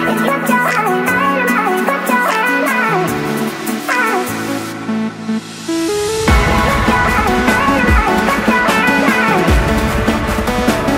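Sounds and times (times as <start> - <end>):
electronic music with heavy bass: 0.0 - 10.9.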